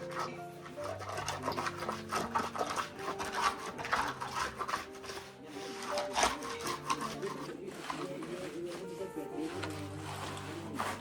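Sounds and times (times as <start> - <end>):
background music: 0.0 - 11.0
trowel scraping concrete: 0.0 - 11.0.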